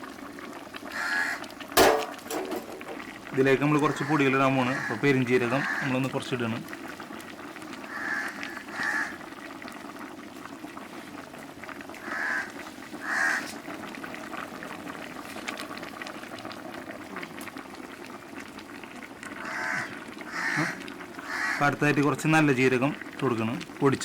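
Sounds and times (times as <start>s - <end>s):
curry boiling in a pot: 0.0s - 24.0s.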